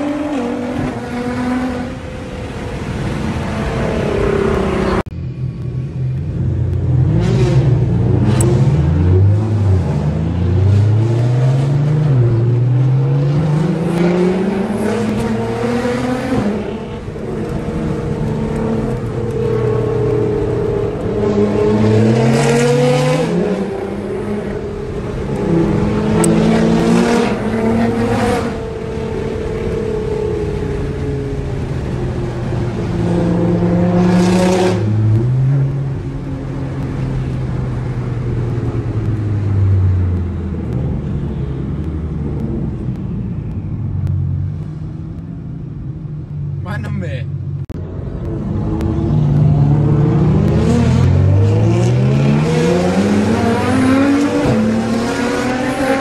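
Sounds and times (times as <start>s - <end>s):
car engine accelerating hard: 6.8s - 46.7s, 47.8s - 56.0s.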